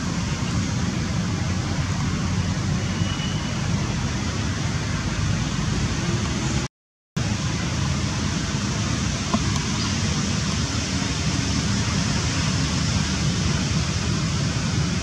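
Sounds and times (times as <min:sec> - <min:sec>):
rushing outdoor noise with low rumble: 0:00.0 - 0:15.0.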